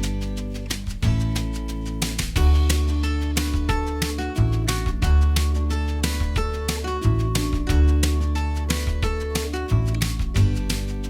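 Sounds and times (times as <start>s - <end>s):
acoustic guitar music with beat: 0.0s - 11.0s.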